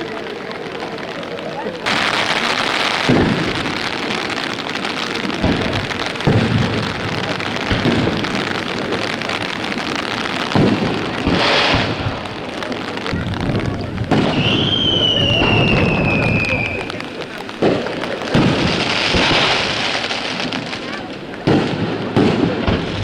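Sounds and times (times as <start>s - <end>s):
fireworks booming: 0.0s - 23.0s
heavy rain and wind: 0.0s - 23.0s.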